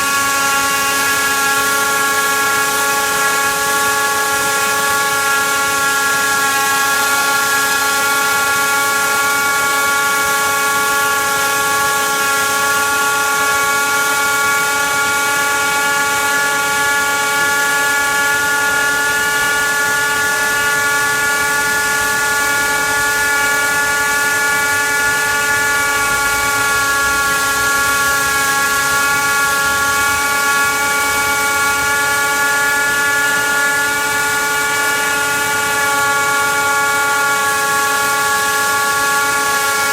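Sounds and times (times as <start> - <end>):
wire saw cutting with high whine: 0.0 - 39.9.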